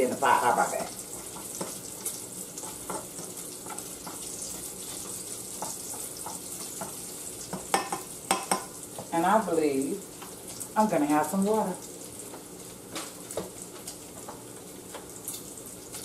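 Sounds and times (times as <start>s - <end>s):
bacon sizzling: 0.0s - 16.0s.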